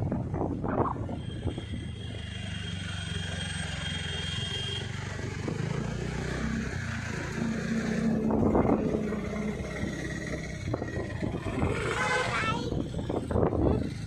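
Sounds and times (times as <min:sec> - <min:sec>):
road noise: 0:00.0 - 0:14.0
scooter engine drone: 0:00.0 - 0:14.0.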